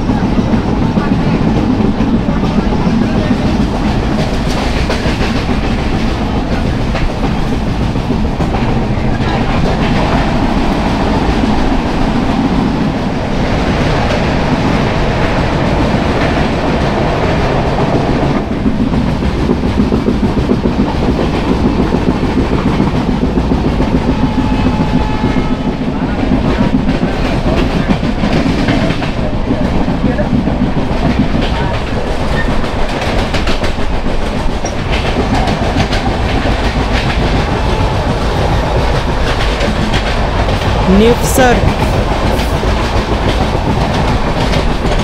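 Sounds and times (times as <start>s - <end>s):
train wheels rumbling and rattling: 0.0s - 45.0s.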